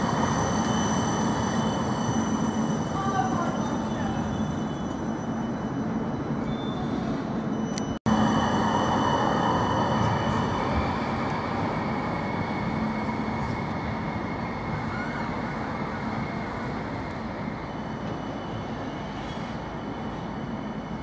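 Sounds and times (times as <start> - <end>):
steady high whine: 0.0 - 21.0
tram rolling on track: 0.0 - 21.0.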